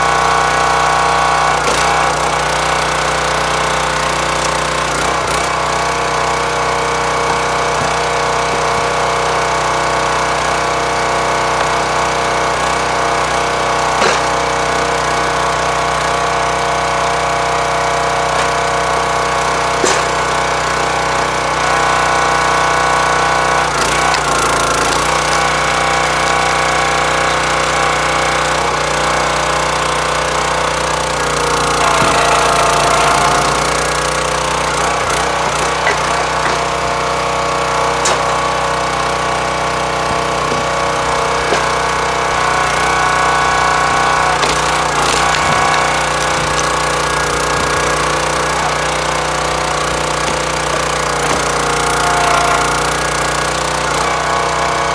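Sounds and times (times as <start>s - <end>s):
log splitter engine running: 0.0s - 54.9s
wood cracking: 1.5s - 10.5s, 11.1s - 15.1s, 18.2s - 21.0s, 21.6s - 54.1s.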